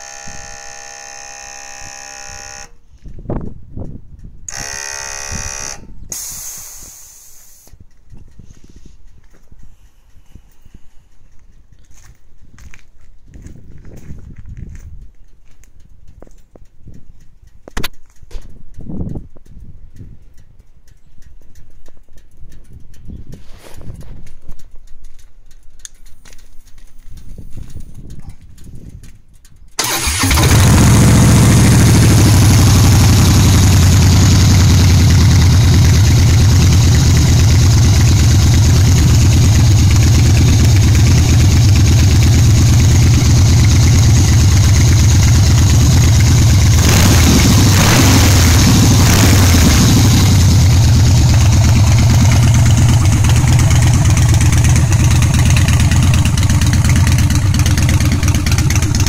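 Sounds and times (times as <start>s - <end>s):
motorcycle engine starting and idling: 0.0s - 9.8s, 15.3s - 59.0s.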